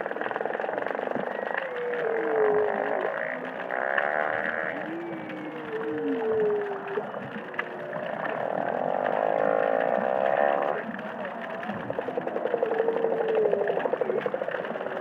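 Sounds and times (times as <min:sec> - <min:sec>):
whale song moaning and buzzy calls: 0:00.0 - 0:15.0.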